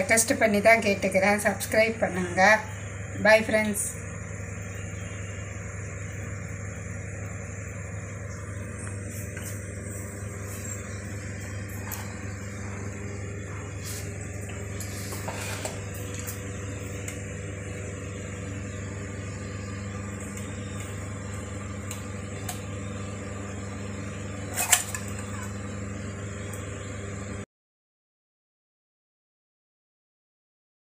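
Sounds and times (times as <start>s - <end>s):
steady low hum: 0.0s - 27.5s.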